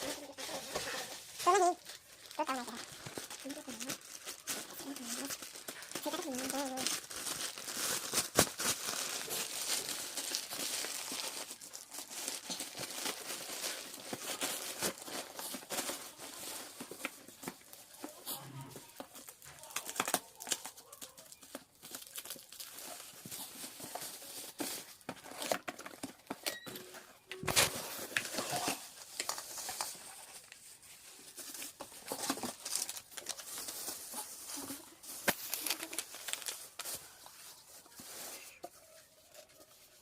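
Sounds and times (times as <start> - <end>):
packaging crinkling and tearing: 0.0 - 40.0.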